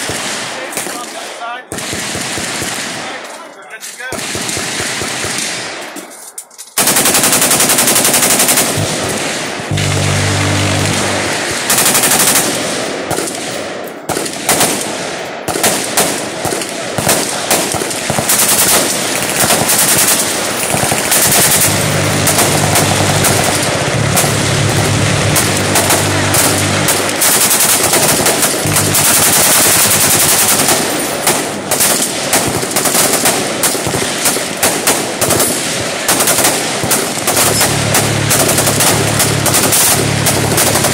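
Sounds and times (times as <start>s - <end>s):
machine gun automatic fire: 0.0s - 3.2s, 4.2s - 5.9s, 6.7s - 40.9s.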